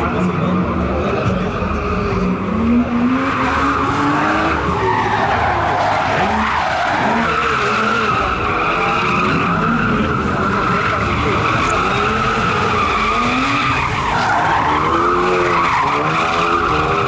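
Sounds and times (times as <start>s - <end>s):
car engine revving high: 0.0s - 17.0s
tyres squealing: 3.2s - 17.0s.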